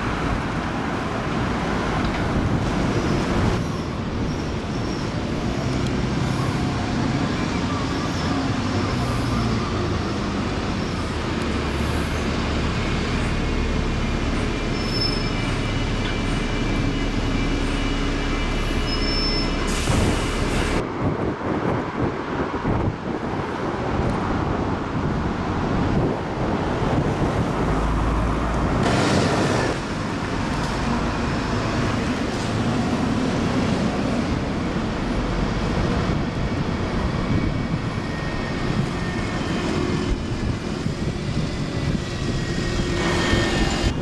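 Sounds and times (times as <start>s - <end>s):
buses running along street: 0.0s - 44.0s
road traffic: 0.0s - 44.0s.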